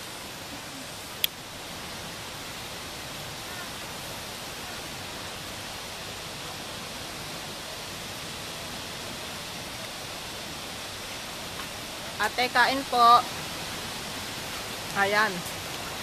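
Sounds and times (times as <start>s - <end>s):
running water hiss: 0.0s - 16.0s.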